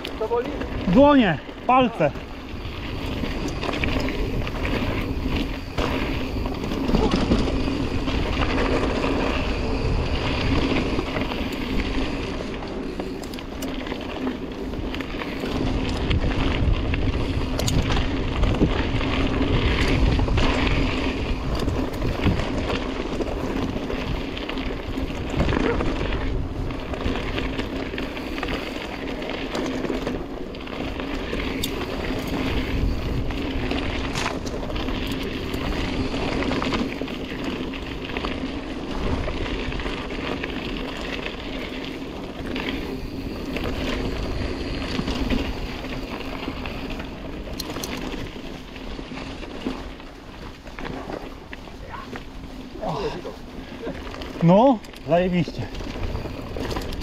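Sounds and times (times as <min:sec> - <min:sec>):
bike rattling: 0:00.0 - 0:57.0
tyres rumbling on dirt: 0:00.0 - 0:57.0
wind rushing over microphone: 0:00.0 - 0:57.0.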